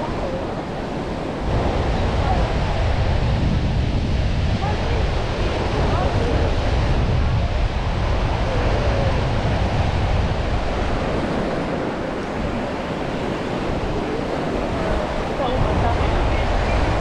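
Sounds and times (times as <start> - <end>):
surf washing on a beach: 0.0 - 17.0
wind buffeting the microphone: 0.0 - 17.0.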